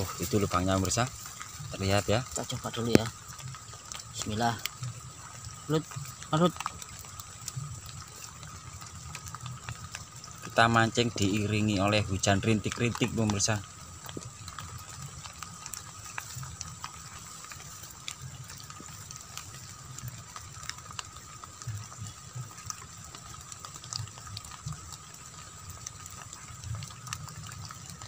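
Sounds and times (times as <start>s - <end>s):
low steady rumble: 0.0s - 28.0s
raindrops ticking on water: 0.0s - 28.0s.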